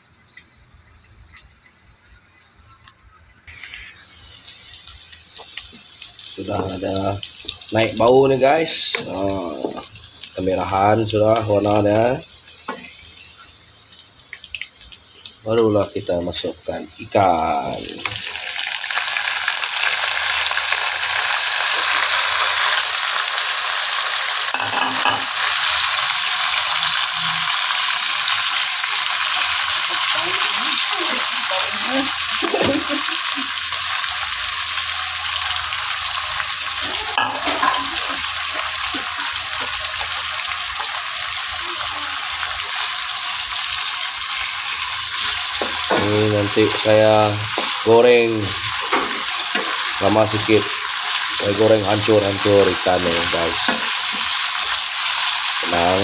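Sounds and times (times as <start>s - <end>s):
fish frying in hot oil: 0.0s - 56.0s.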